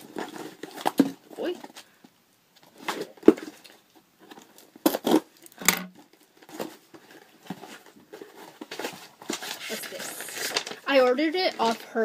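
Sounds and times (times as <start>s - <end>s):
cardboard rustling: 0.0s - 1.9s, 2.6s - 12.0s.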